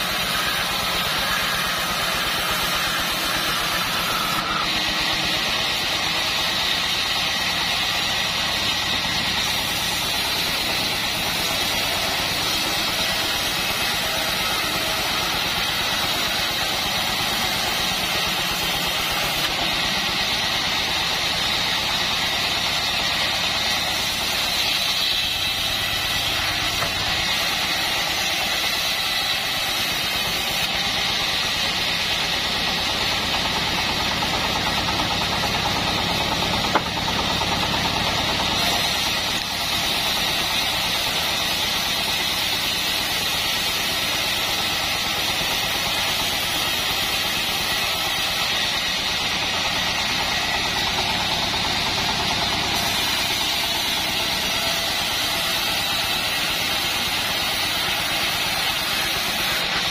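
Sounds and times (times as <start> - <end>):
bandsaw mill sawing a log: 0.0 - 59.9.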